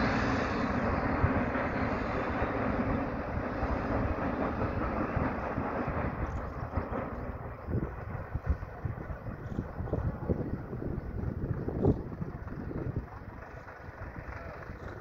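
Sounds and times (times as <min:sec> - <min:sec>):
train rumbling over viaduct: 0:00.0 - 0:15.0.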